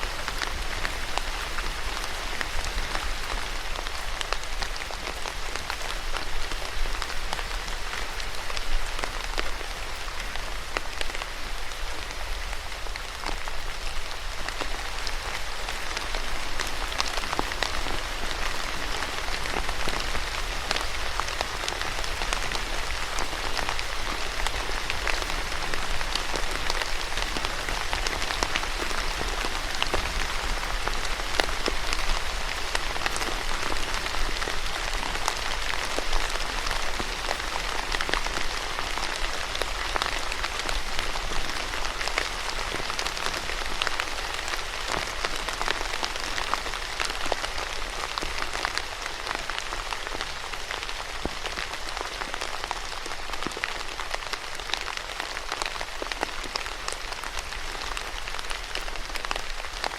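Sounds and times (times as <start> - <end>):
rain pattering on hard surface: 0.0 - 59.9.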